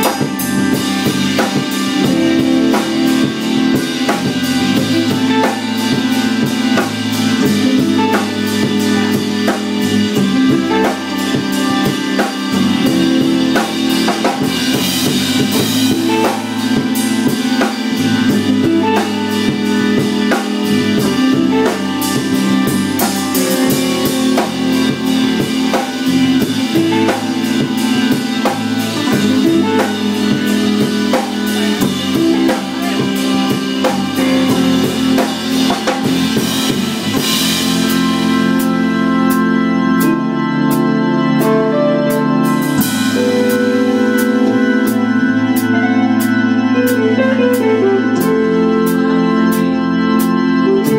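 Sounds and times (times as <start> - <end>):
drum kit beat: 0.0 - 50.9
sustained pitched tones: 0.0 - 50.9.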